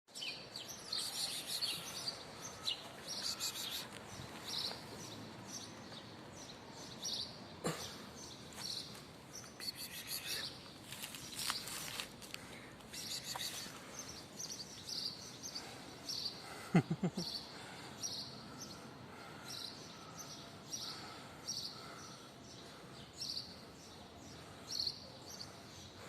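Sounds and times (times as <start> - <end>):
faint outdoor hiss: 0.1 - 26.0
small birds chirping: 0.1 - 26.0.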